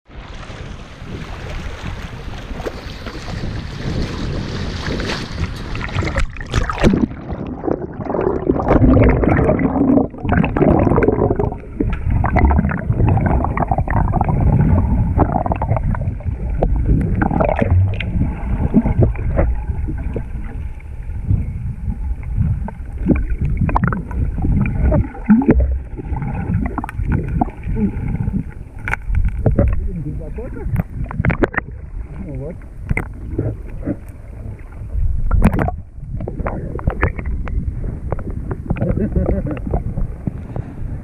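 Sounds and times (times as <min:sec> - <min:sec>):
muffled water sloshing and gurgling: 0:00.0 - 0:41.0
water splashes: 0:00.1 - 0:41.0.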